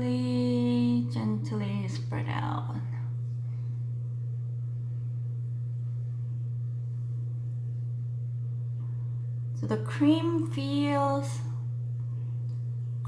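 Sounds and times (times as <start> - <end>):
steady low-pitched hum: 0.0 - 13.0.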